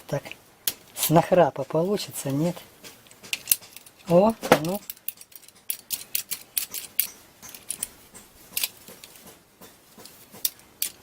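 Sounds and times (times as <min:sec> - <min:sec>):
pruning shears clicking: 0:00.1 - 0:11.0.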